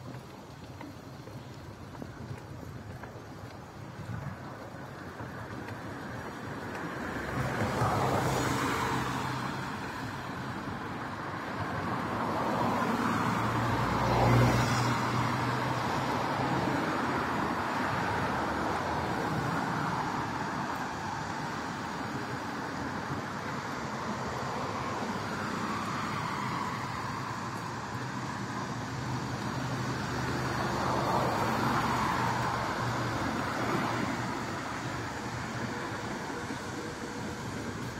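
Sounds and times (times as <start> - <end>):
cars passing close by: 0.0 - 37.9
road traffic noise: 0.0 - 37.9.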